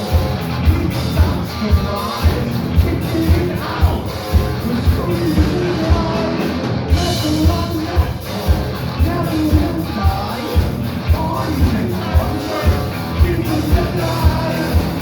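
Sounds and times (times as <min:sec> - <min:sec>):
drum beat: 0:00.0 - 0:15.0
heavy metal band playing: 0:00.0 - 0:15.0
person singing: 0:00.0 - 0:15.0.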